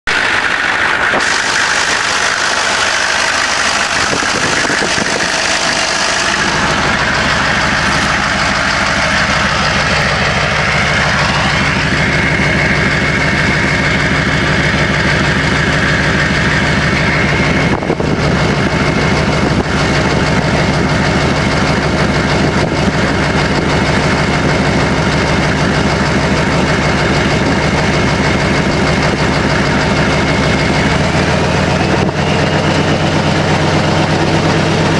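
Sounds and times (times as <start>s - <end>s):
diesel engine running: 0.0s - 34.9s
turbocharger whistle: 0.1s - 25.0s, 25.6s - 34.9s.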